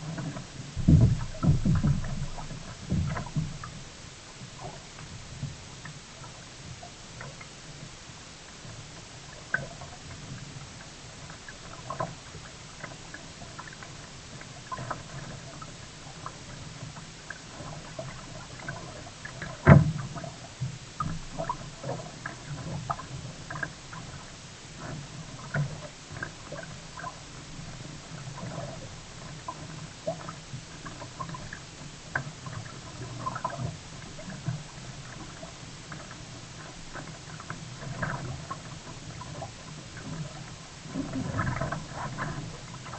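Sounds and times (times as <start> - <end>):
paddle splashing water: 0.0 - 42.9.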